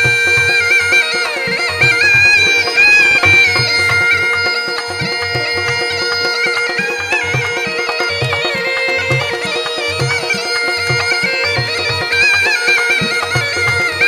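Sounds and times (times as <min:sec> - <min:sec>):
folk instrumental ensemble: 0:00.0 - 0:14.0
reed pipe melody with drone: 0:00.0 - 0:14.0.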